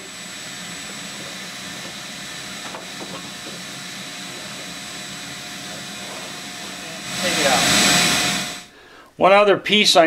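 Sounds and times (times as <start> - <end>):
vacuum cleaner whining: 0.0 - 8.8.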